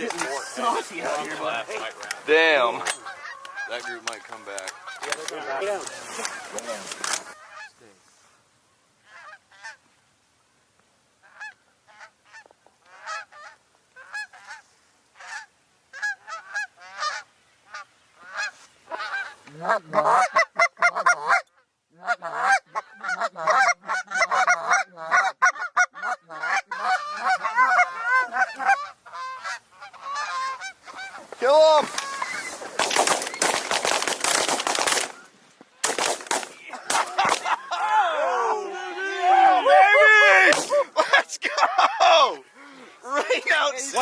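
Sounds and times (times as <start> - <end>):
geese honking: 0.0 - 7.9, 9.0 - 9.9, 11.2 - 40.0, 40.8 - 44.0.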